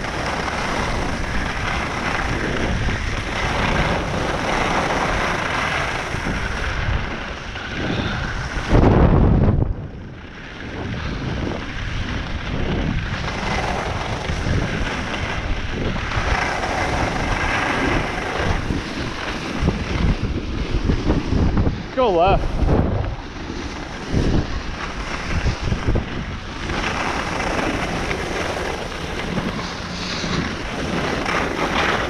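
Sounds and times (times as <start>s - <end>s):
skis sliding on snow: 0.0s - 32.0s
wind buffeting microphone: 0.0s - 32.0s.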